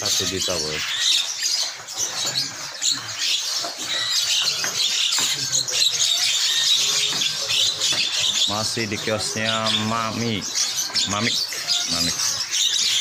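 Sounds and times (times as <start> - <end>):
caged birds chirping and squawking: 0.0 - 13.0.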